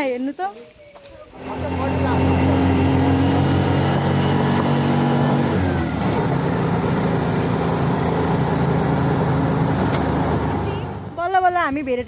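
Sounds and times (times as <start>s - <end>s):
vehicle engine running: 1.3s - 11.9s.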